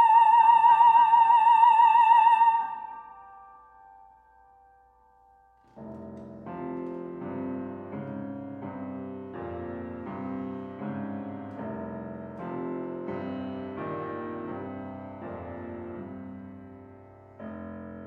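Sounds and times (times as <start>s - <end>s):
grand piano chords: 0.0s - 18.0s.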